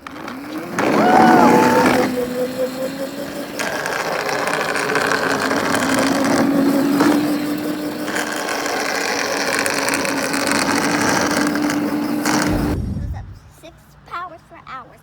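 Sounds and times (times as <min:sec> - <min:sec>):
electric motor whine: 0:00.0 - 0:12.8
wheels and drive rattling: 0:00.0 - 0:13.8.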